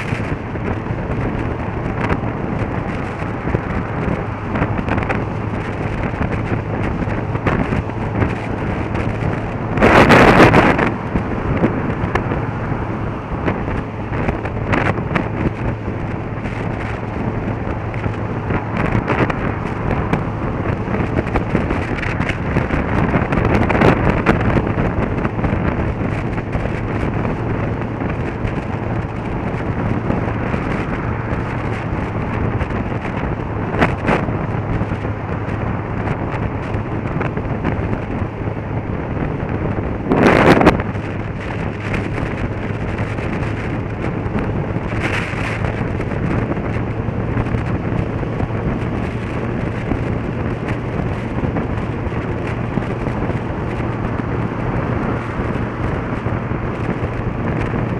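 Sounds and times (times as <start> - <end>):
loud whoosh: 0.0 - 57.9
motorcycle engine drone: 0.0 - 57.9
wind rush on camera: 0.0 - 57.9.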